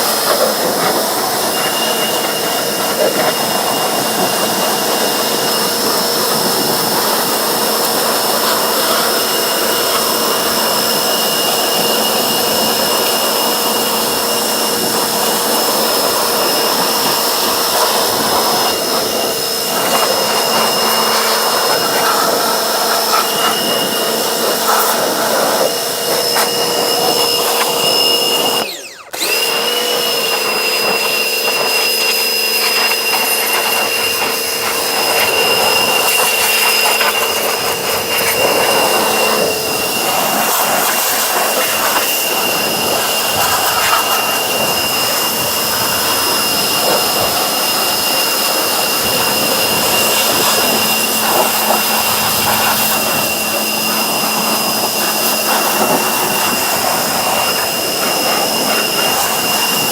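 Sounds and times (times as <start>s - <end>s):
water spray hissing: 0.0s - 28.6s, 30.5s - 59.9s
pressure washer whining: 0.0s - 59.9s.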